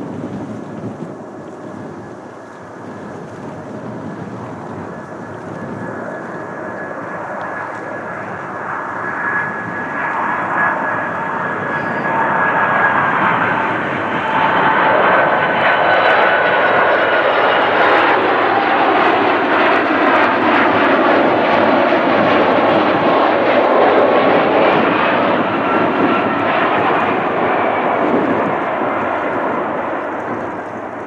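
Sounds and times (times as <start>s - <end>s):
faint jet engine whine: 0.0s - 31.0s
jet engines rushing: 0.0s - 31.0s.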